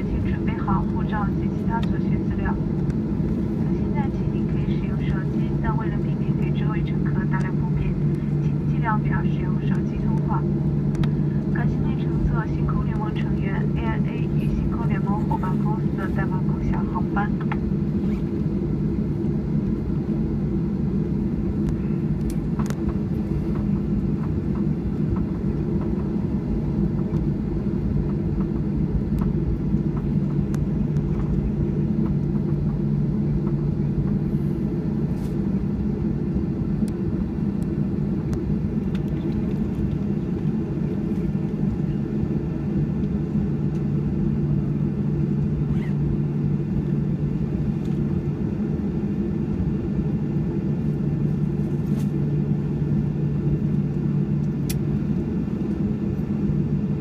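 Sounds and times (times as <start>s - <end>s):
jet engines idling in cabin: 0.0s - 57.0s.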